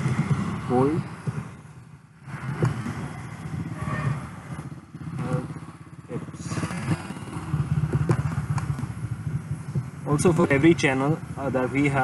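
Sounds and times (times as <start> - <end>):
pulsing engine-like rumble: 0.0 - 12.0.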